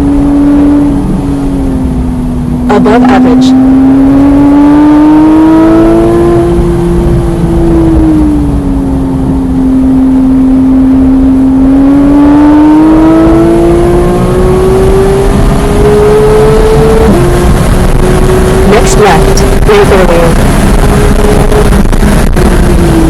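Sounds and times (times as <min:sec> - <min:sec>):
car engine under load: 0:00.0 - 0:23.0
road and wind noise: 0:00.0 - 0:23.0.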